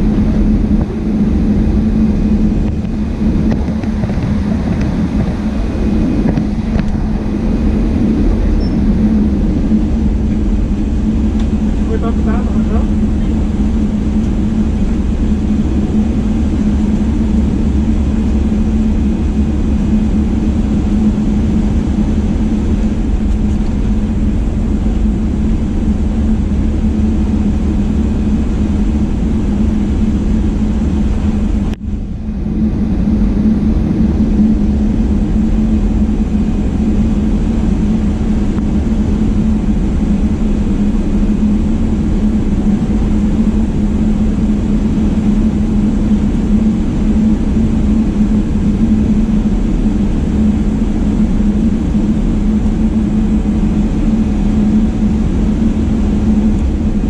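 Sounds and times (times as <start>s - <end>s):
jet engines heard from cabin: 0.0s - 57.0s.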